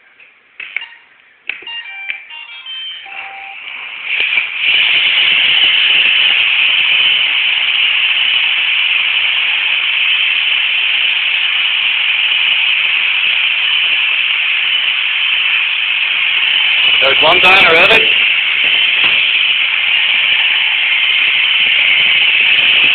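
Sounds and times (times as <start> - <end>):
robot vacuums hissing: 3.8 - 22.9.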